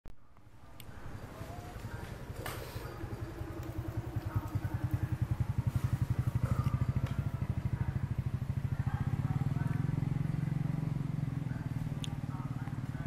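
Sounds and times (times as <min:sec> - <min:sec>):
motorcycle engine running: 0:00.9 - 0:13.0.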